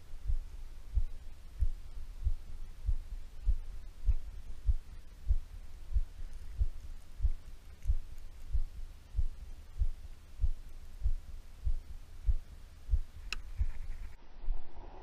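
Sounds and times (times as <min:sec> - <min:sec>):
low heartbeat-like thumping: 0:00.0 - 0:14.2
low hum: 0:00.0 - 0:15.0.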